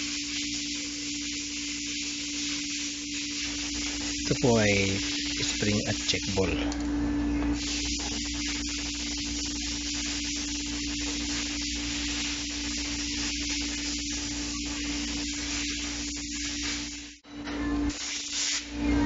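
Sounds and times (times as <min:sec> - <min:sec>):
steady hiss: 0:00.0 - 0:06.7, 0:07.5 - 0:17.2.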